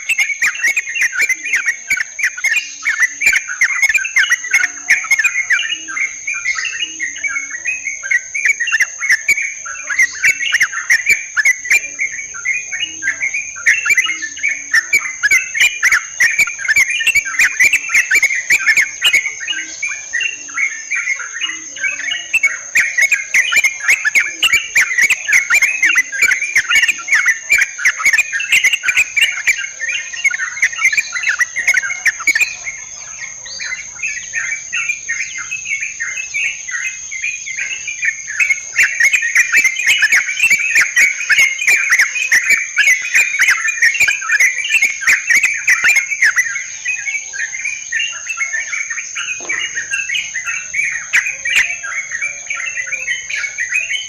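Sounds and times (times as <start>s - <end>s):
bulbuls chattering: 0.0s - 54.0s
high insect whine: 0.0s - 54.0s.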